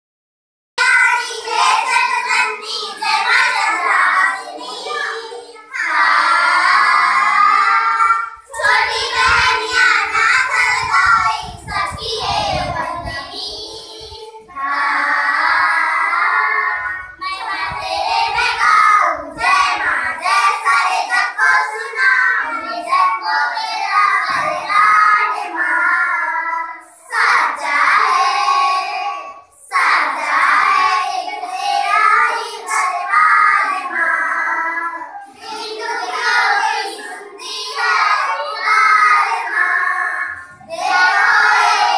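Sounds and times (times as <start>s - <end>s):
girls singing in unison: 0.8s - 41.9s.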